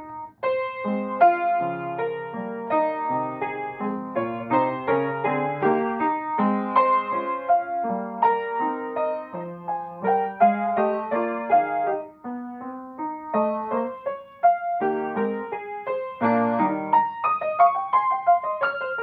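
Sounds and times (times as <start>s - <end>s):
solo classical piano: 0.0s - 19.0s.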